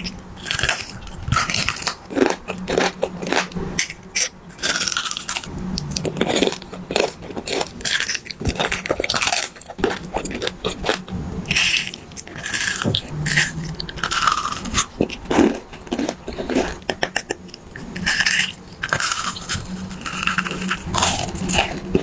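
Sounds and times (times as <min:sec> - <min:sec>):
chewing crunches and clicks: 0:00.0 - 0:22.0.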